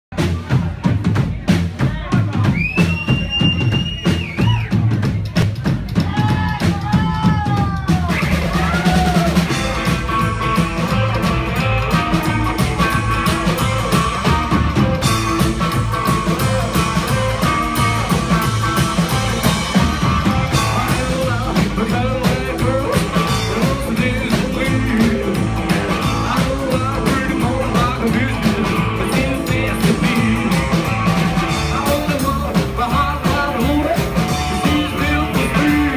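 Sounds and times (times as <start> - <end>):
rockabilly band playing live: 0.1 - 35.9.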